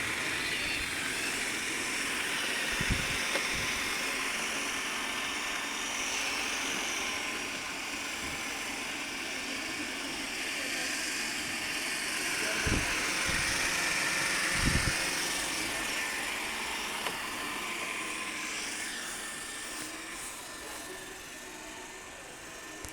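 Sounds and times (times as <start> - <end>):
robot vacuum cleaners whirring: 0.0 - 22.9.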